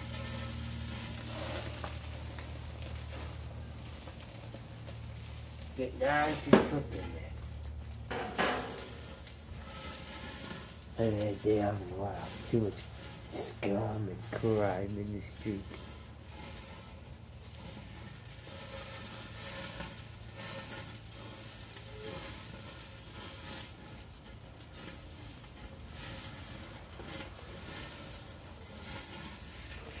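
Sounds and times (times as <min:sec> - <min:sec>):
food sizzling on a grill: 0:00.0 - 0:30.0.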